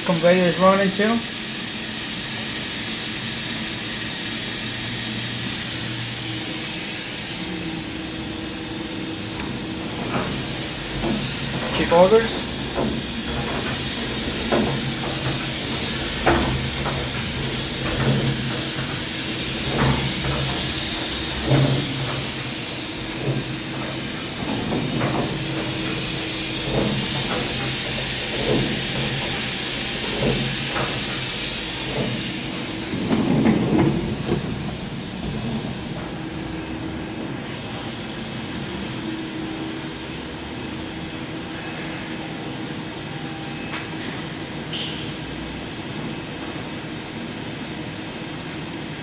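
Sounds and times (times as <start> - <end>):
conveyor motor hum and hiss: 0.0 - 49.0.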